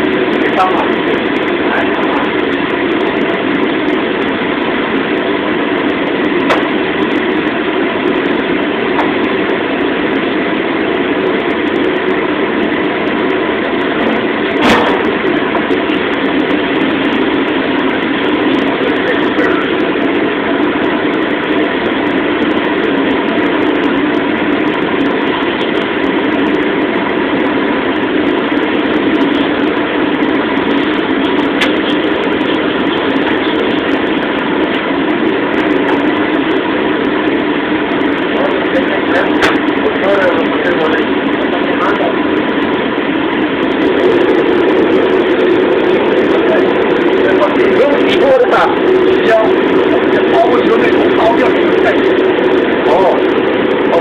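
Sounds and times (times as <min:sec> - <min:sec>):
gas burner roaring: 0:00.0 - 0:54.0.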